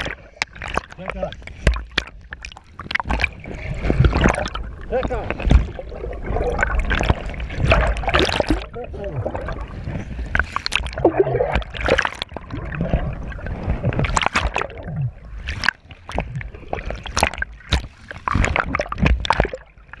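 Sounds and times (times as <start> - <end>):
water splashing: 0.0 - 20.0.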